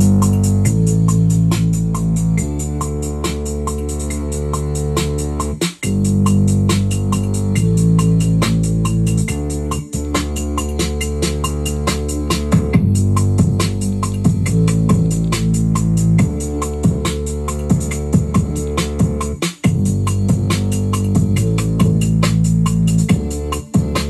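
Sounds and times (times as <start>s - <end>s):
electronic beat: 0.0s - 24.0s.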